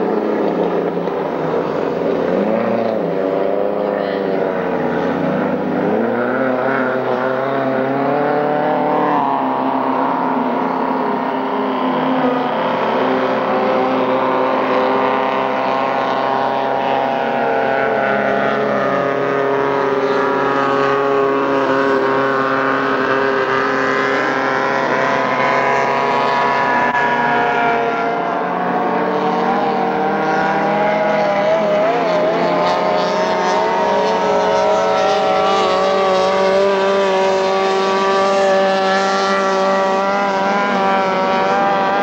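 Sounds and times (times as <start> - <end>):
racing boat engines screaming: 0.0 - 42.0.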